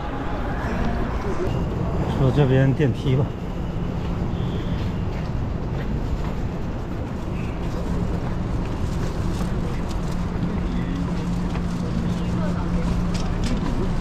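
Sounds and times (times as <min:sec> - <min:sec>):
constant background rumble: 0:00.0 - 0:14.0.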